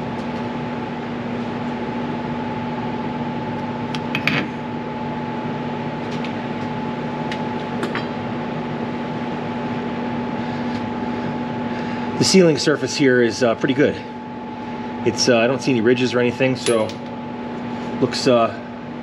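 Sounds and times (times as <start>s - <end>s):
steady two-tone mechanical hum: 0.0s - 19.0s.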